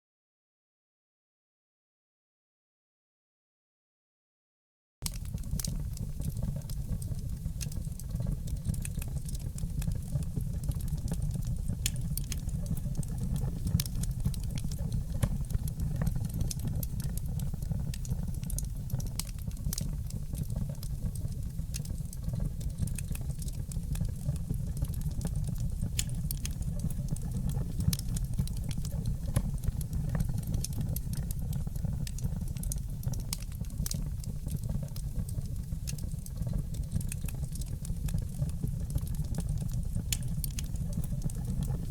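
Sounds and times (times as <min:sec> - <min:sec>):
wood fire crackling: 0:05.0 - 0:41.9.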